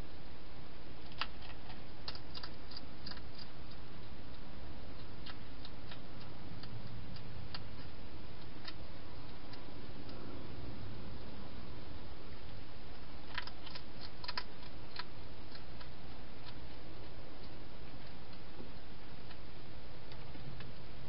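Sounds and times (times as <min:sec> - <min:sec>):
steady low hiss: 0:00.0 - 0:21.0
hedgehog chewing: 0:01.0 - 0:11.2, 0:12.3 - 0:20.8.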